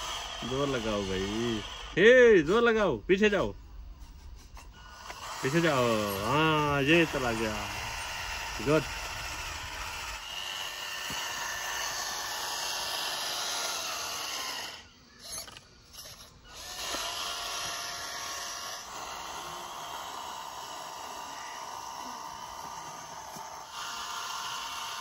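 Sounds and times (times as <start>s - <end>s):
model tractor motor whining: 0.0s - 2.6s, 4.6s - 25.0s.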